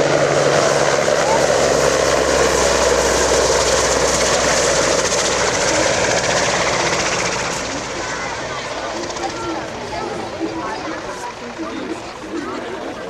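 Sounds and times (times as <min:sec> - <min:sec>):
helicopter turbine and rotor noise: 0:00.0 - 0:13.0.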